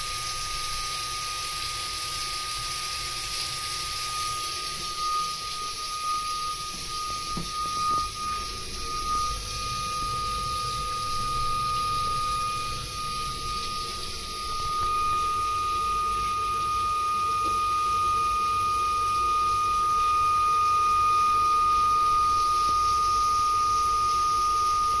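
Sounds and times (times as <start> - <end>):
boiler whistling: 0.0 - 25.0.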